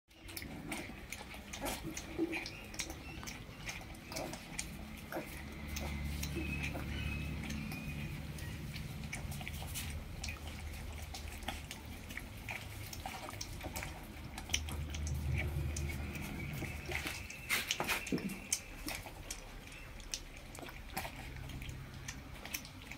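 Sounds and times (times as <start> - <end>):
puppies lapping milk: 0.1 - 22.9.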